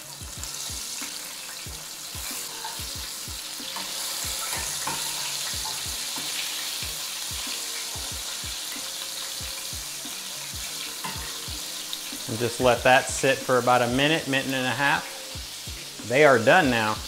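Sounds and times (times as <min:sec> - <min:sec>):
fish sizzling in frying oil: 0:00.0 - 0:17.0.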